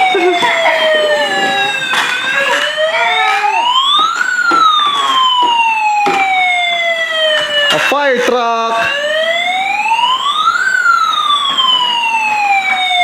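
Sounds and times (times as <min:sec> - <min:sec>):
toy electronic siren wailing: 0:00.0 - 0:13.0.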